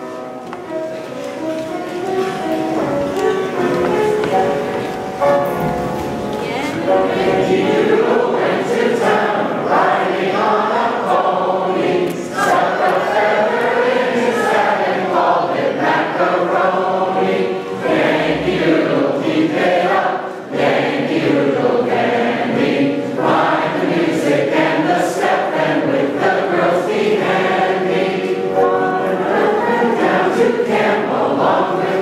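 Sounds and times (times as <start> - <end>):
choir singing: 3.2 - 32.0.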